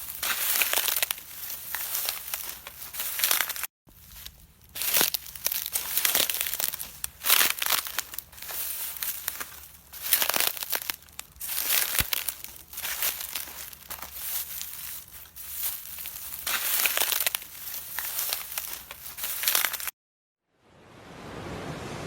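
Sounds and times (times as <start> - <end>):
crinkling and crunching rustles: 0.0 - 20.0.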